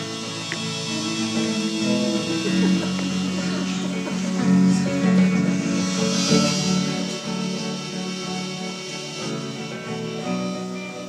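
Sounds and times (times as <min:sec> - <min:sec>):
guitar ringing chords: 0:00.0 - 0:11.0.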